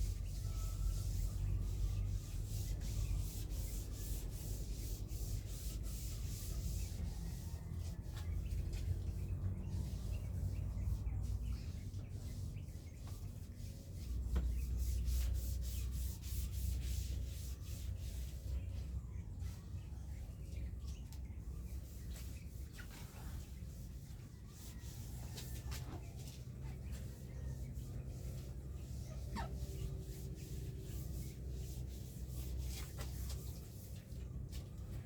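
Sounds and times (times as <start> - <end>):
scrubbing strokes: 0.0 - 18.6, 21.8 - 35.0.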